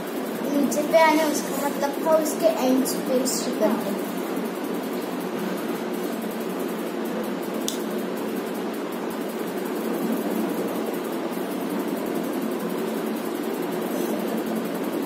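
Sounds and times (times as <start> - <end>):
steady mechanical noise: 0.0 - 15.0.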